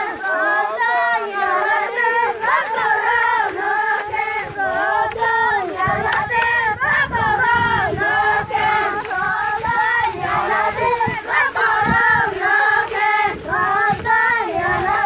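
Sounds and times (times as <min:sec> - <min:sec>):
children chanting together: 0:00.0 - 0:15.0.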